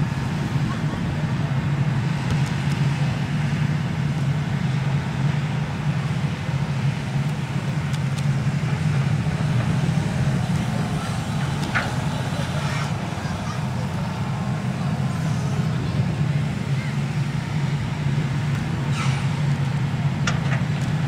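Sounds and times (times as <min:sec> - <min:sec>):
excavator diesel engine droning: 0:00.0 - 0:21.0.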